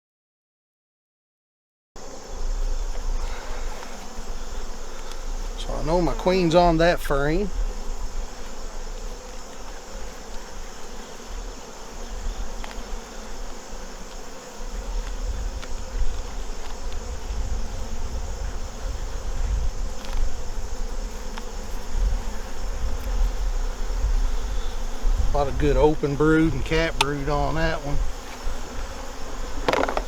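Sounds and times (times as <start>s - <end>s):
honey bees buzzing: 2.0s - 30.0s.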